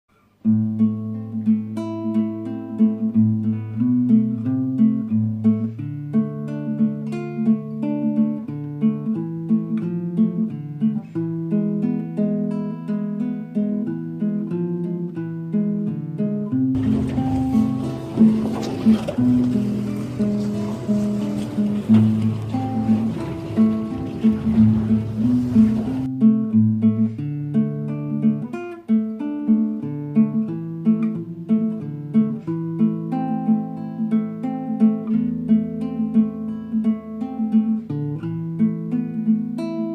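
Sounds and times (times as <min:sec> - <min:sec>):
acoustic guitar music: 0:00.1 - 0:39.9.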